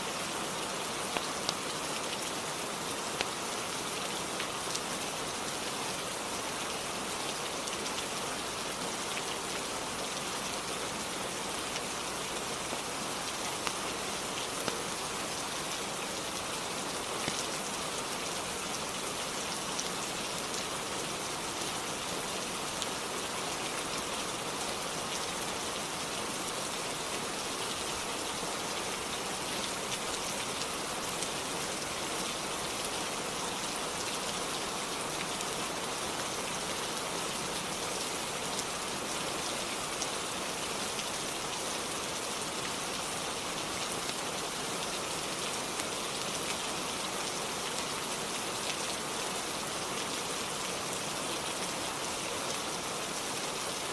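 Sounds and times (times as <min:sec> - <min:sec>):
rain pattering: 0:00.1 - 0:53.9.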